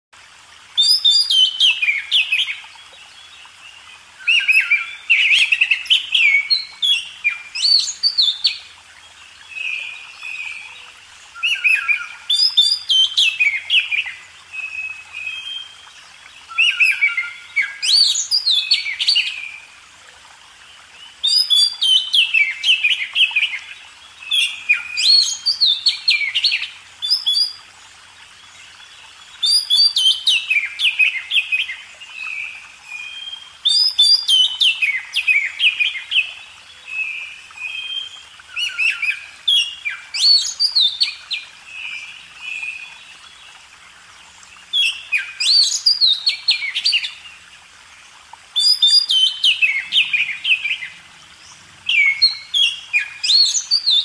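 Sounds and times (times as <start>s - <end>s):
songbird singing: 0.8s - 54.0s.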